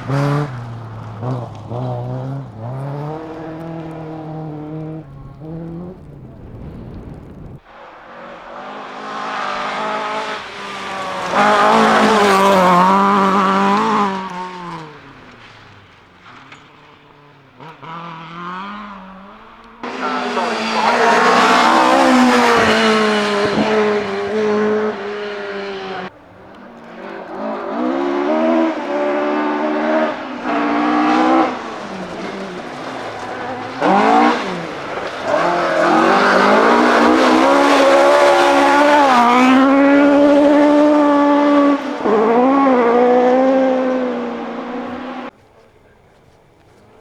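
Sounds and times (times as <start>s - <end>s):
rally cars passing: 0.0s - 47.0s.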